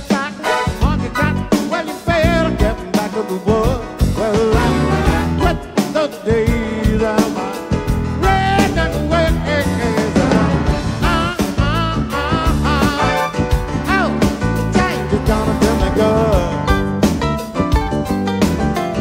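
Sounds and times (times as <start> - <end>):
person singing: 0.0 - 17.2
piano-led rock and roll band: 0.0 - 19.0.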